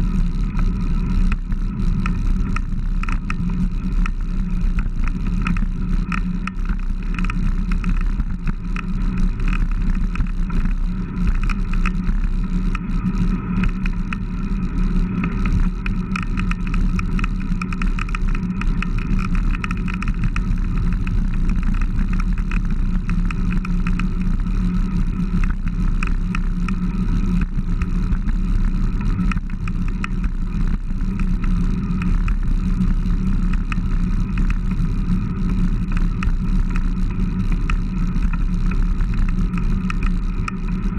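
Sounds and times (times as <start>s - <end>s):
bicycle road noise: 0.0s - 40.9s
wind noise: 0.0s - 40.9s.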